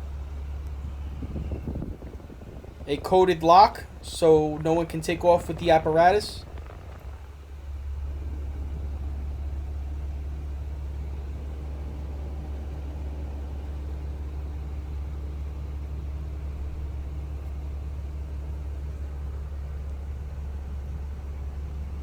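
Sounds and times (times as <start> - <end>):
diesel engine idling: 0.0 - 22.0
faint steady hum: 0.0 - 22.0.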